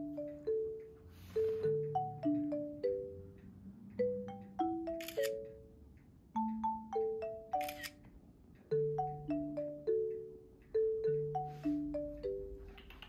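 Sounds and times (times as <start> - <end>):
bouncy chiming tune: 0.0 - 12.8.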